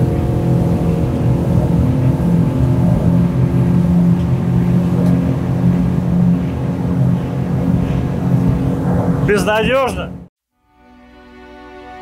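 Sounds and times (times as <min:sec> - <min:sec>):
outboard motor running hard: 0:00.0 - 0:10.3
rush of wind and water: 0:00.0 - 0:10.3.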